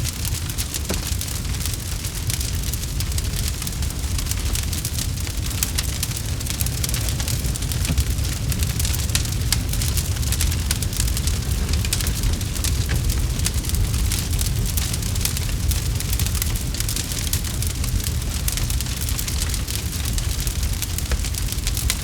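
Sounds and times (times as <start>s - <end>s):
campfire crackling: 0.0s - 22.0s
low rumble of fire: 0.0s - 22.0s.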